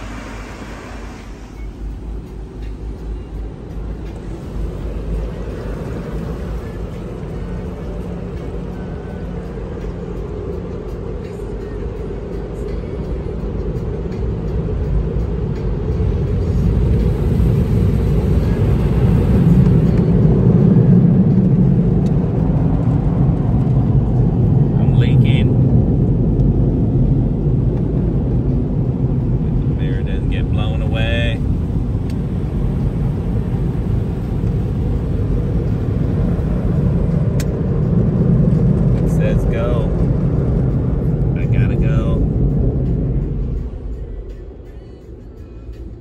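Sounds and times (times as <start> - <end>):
car wash air blowers rumbling: 0.0 - 43.9.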